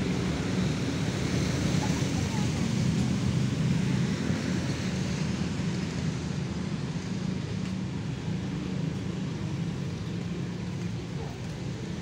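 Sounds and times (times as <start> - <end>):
motorbikes passing: 0.0 - 12.0
road traffic rumble: 0.0 - 12.0.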